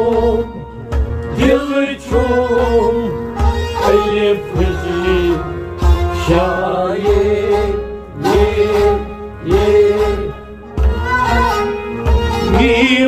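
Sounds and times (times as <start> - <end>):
harmonium: 0.0 - 13.0
low drum beats: 0.0 - 13.0
men singing long notes: 0.0 - 13.0.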